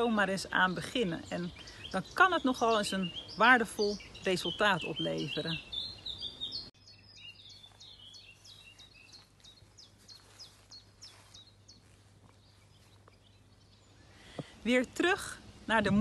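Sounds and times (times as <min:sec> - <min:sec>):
songbird calling: 0:00.0 - 0:16.0.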